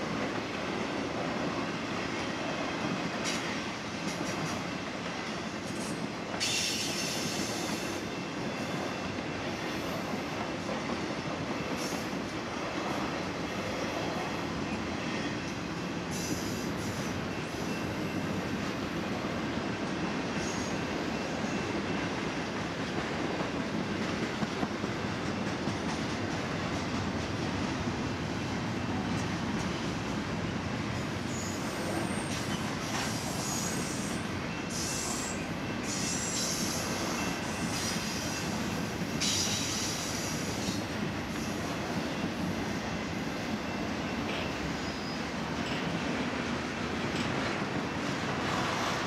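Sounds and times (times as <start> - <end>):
steel wheels rumbling on rail: 0.0 - 49.0.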